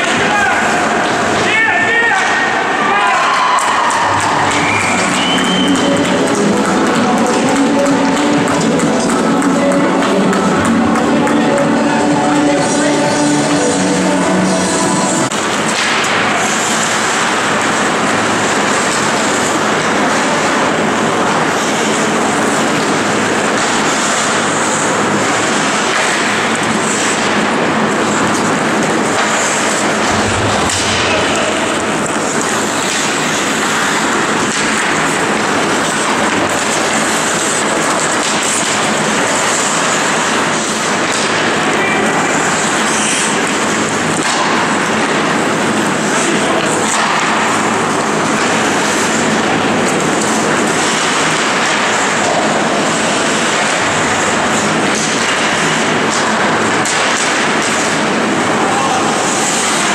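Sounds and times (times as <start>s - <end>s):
indoor ice rink din: 0.0s - 59.9s.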